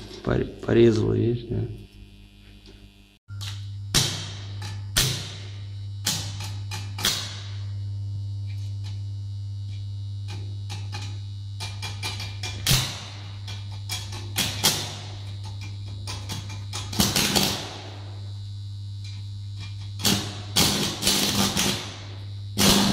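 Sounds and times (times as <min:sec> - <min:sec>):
welder transformer humming: 0:00.0 - 0:22.9
welding arc crackling: 0:01.7 - 0:22.9.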